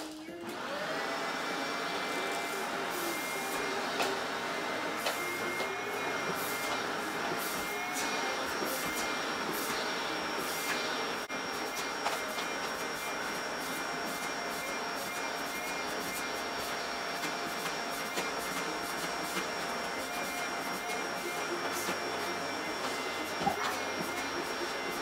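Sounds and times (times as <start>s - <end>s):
vacuum cleaner running: 0.0s - 25.0s
vacuum hose on fabric: 0.5s - 25.0s.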